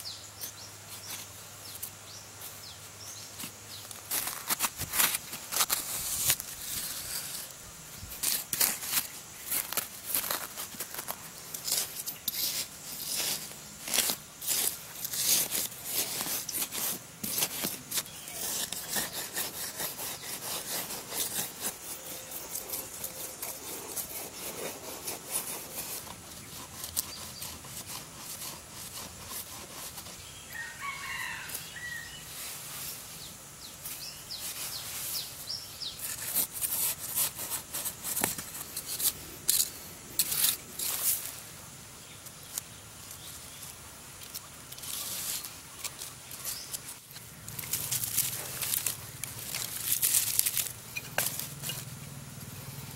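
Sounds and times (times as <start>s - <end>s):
blade scraping into soil: 0.4s - 41.5s, 44.2s - 52.1s.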